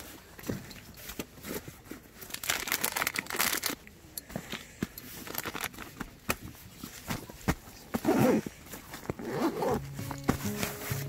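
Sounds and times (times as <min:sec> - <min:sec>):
fabric rustling and crinkling: 0:00.0 - 0:11.0.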